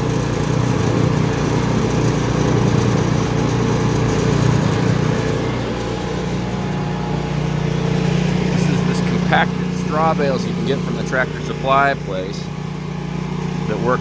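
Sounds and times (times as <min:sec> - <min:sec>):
mixer gas engine running: 0:00.0 - 0:14.0
paddles churning mortar: 0:00.0 - 0:14.0.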